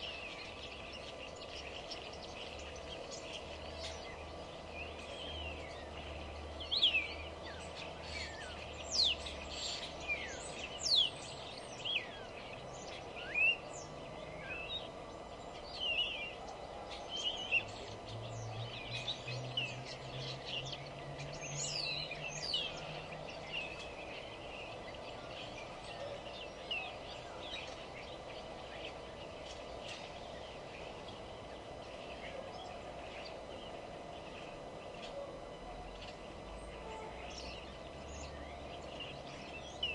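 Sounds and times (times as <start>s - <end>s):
birds chirping and singing: 0.0s - 39.9s
steady low background hum: 0.0s - 39.9s.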